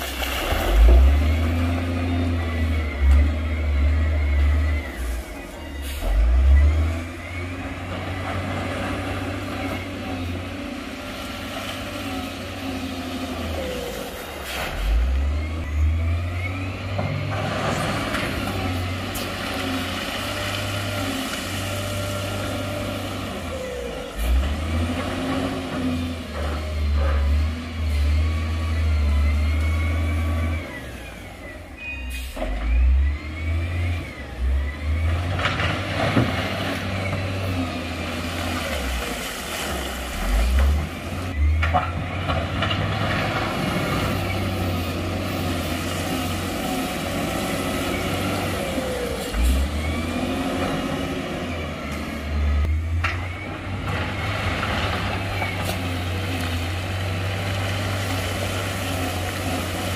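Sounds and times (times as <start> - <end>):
diesel machinery engine revving: 0.0 - 59.9.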